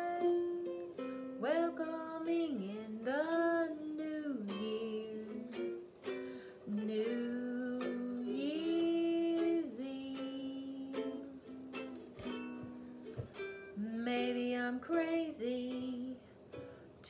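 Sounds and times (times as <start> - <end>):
woman singing: 0.0 - 5.8, 6.6 - 12.0, 13.7 - 16.2
ukulele strumming: 0.0 - 17.0.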